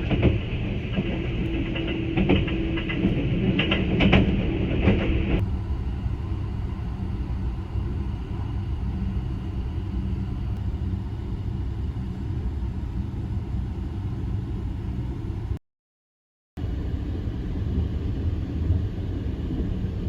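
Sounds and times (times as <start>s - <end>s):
train rumbling at speed: 0.0s - 15.6s, 16.6s - 20.0s.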